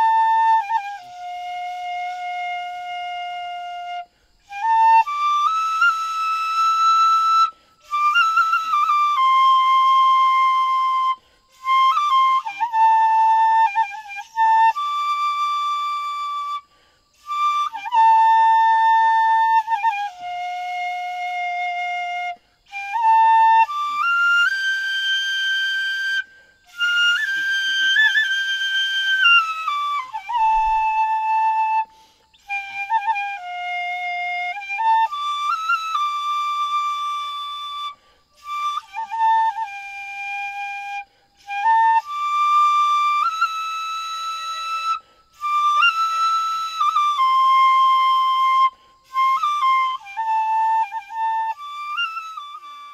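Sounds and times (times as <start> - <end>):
slow solo flute melody: 0.0 - 52.9.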